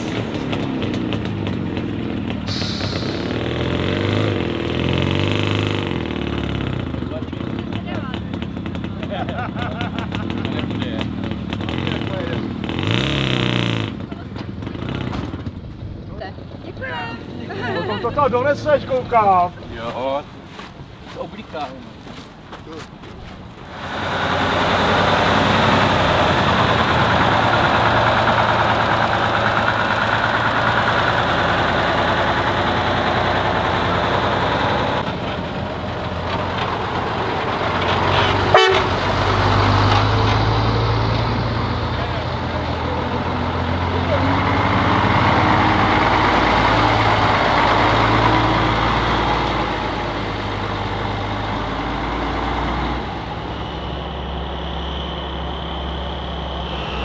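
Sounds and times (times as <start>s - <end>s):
truck diesel engine running hard: 0.0s - 20.2s, 23.4s - 57.0s.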